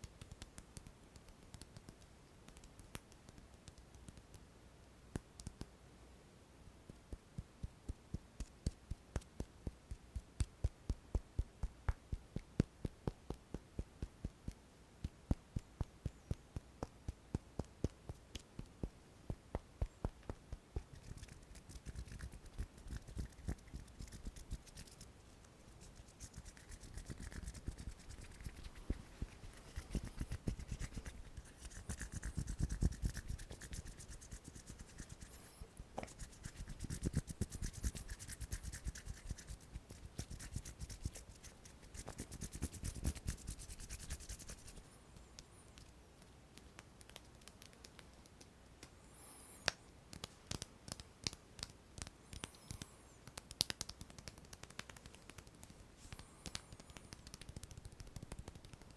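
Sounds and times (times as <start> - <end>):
hands rubbing and scratching: 0.0 - 4.4, 6.9 - 48.9, 49.6 - 58.9
soft hand tapping: 0.0 - 4.4, 5.1 - 5.7, 6.9 - 25.1, 25.8 - 48.9, 49.6 - 58.9.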